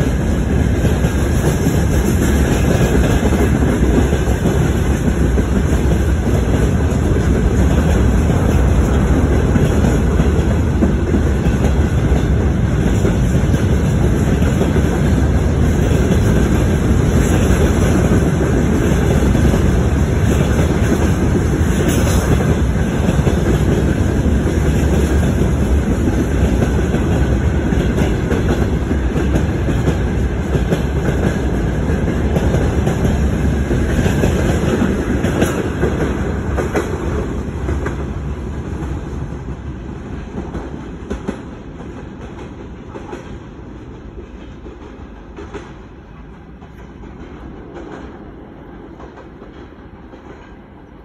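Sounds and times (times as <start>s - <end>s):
freight train rumbling past: 0.0s - 51.0s
wheels clacking on rails: 0.0s - 51.0s.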